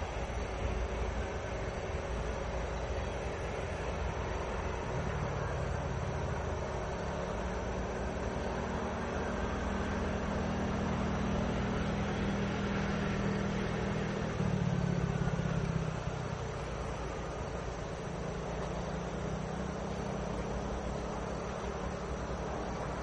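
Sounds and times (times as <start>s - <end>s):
diesel locomotive engine humming: 0.0s - 23.0s.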